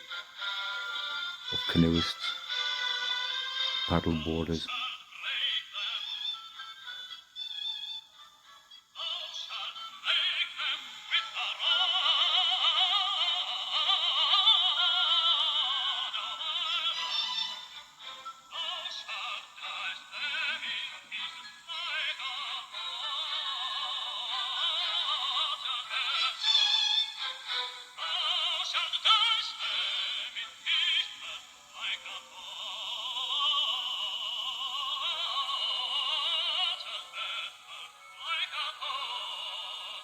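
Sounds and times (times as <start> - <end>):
background music with singing: 0.0 - 40.0.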